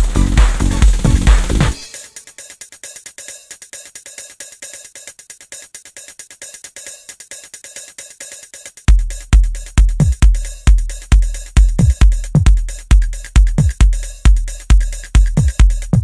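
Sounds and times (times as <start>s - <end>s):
electronic dance music: 0.0s - 16.0s
fast hi-hat ticks: 0.0s - 16.0s
heavy kick-drum beat: 0.0s - 16.0s.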